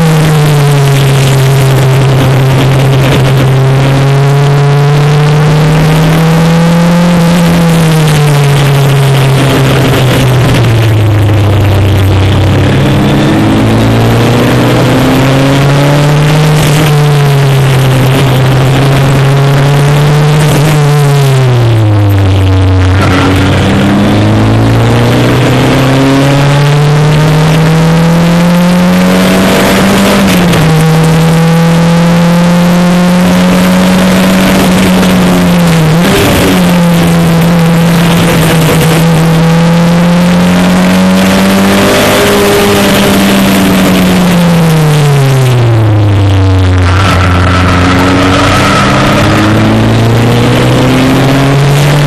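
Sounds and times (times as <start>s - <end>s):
racing car engine accelerating: 0.0s - 52.0s.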